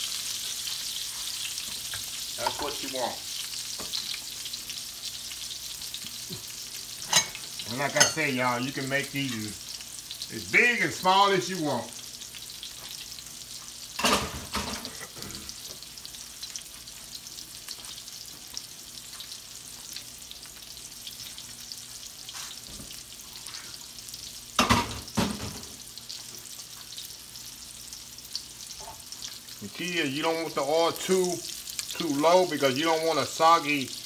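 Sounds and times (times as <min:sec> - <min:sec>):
patties sizzling in oil: 0:00.0 - 0:34.0.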